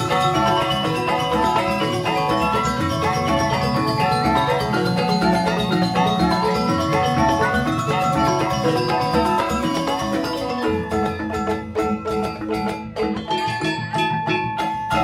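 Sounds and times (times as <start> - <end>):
gamelan metallophones playing: 0.0 - 15.0
hand drums: 0.0 - 15.0.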